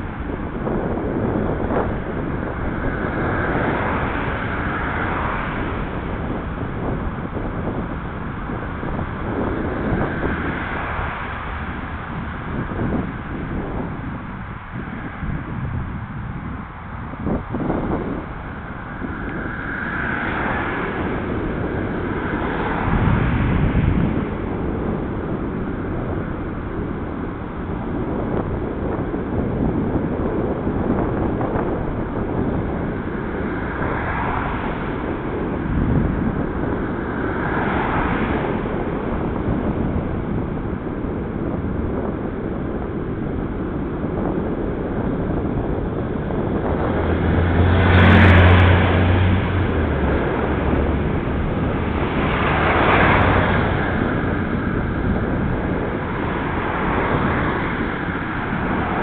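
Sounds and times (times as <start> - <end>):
car passing with engine hum: 0.0 - 59.0
road noise: 0.0 - 59.0
wind rush on microphone: 0.0 - 59.0.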